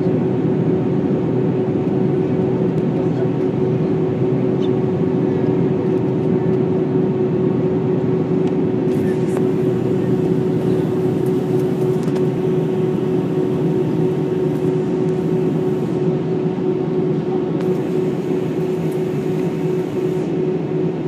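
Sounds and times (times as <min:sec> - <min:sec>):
airliner cabin engine drone: 0:00.0 - 0:21.0
steady hum: 0:00.0 - 0:21.0.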